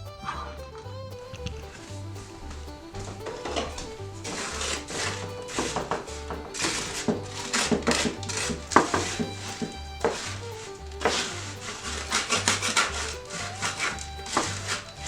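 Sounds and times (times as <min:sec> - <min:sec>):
scratchy scraping strokes: 0:00.2 - 0:15.0.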